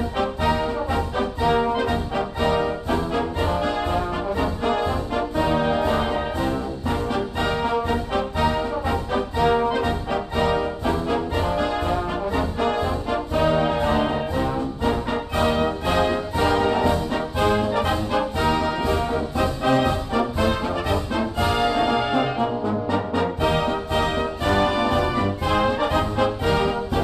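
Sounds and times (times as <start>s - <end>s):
brass and orchestra music: 0.0s - 27.0s.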